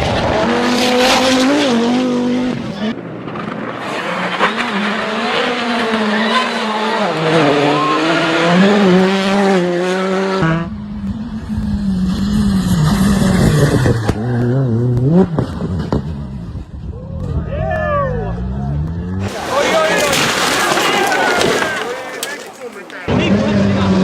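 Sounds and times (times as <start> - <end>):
rally car engine revving: 0.0 - 17.4, 18.2 - 24.0.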